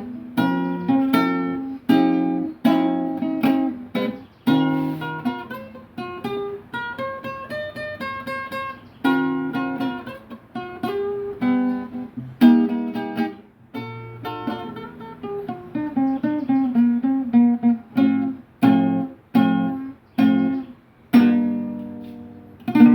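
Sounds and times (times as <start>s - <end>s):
acoustic guitar playing: 0.0s - 22.9s.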